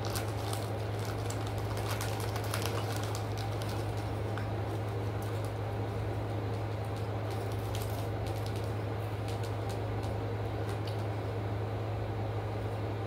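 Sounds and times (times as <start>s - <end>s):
plastic snack bag crinkling: 0.0s - 11.2s.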